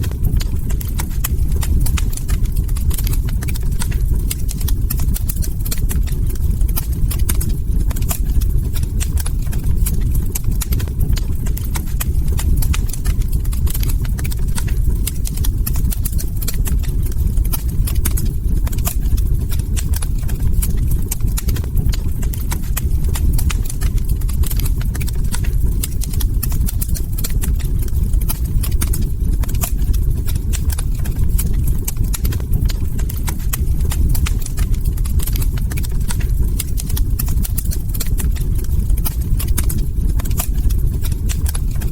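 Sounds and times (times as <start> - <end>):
fire low rumble: 0.0 - 41.9
wood crackling and popping: 0.0 - 41.9.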